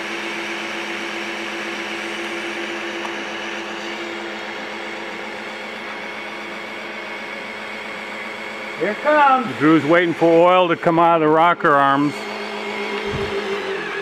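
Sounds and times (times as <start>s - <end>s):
cordless drill whirring: 0.0s - 14.0s.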